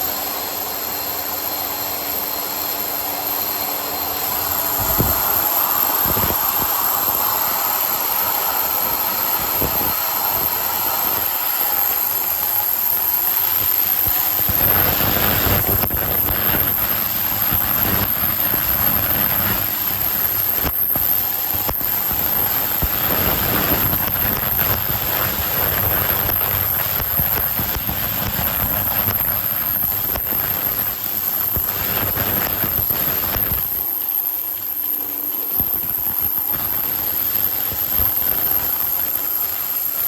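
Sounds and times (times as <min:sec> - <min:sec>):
washing machine hiss and whir: 0:00.0 - 0:40.0.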